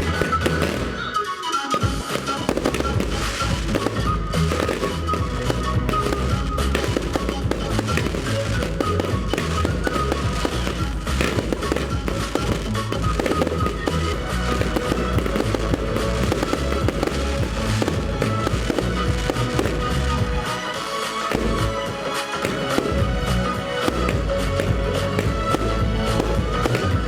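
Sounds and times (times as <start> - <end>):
fireworks bursting and crackling: 0.0 - 27.0
loud music with heavy bass: 0.0 - 27.0.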